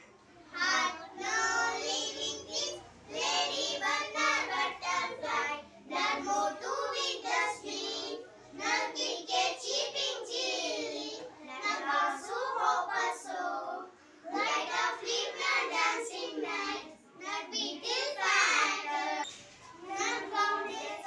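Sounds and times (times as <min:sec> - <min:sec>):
young girls singing together: 0:00.0 - 0:21.0.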